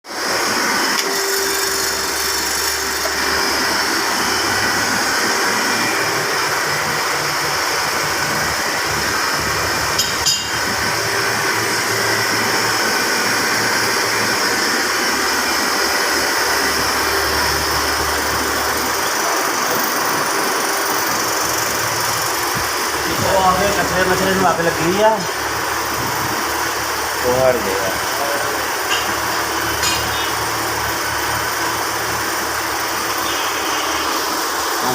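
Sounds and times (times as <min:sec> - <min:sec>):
pellet burner blower and flame: 0:00.1 - 0:34.9.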